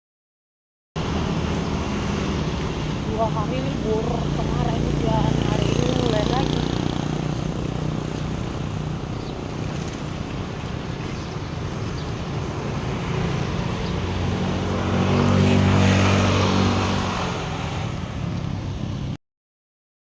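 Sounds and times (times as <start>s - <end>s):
vehicle driving past: 1.0s - 18.2s
background road noise: 1.0s - 19.2s.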